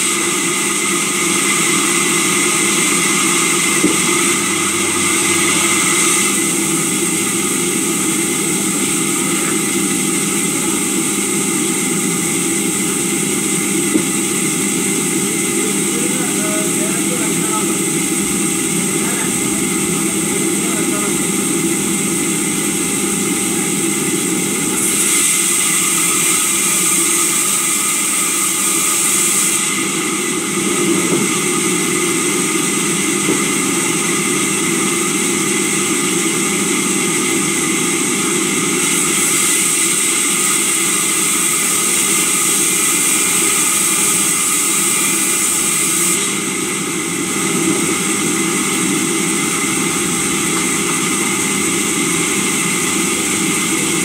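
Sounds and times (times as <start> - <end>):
sawmill saw humming: 0.0 - 54.0.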